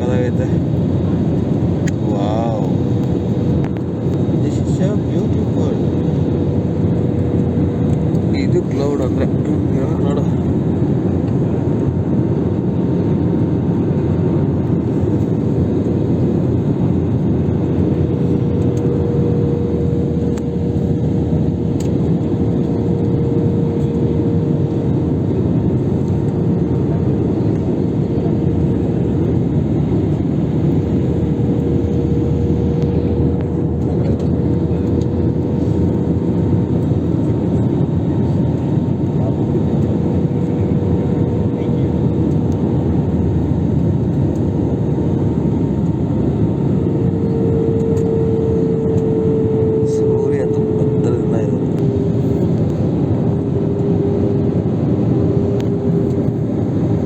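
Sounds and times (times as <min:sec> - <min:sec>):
constant humming tone: 0:00.0 - 0:57.0
jet engine and airflow roar: 0:00.0 - 0:57.0.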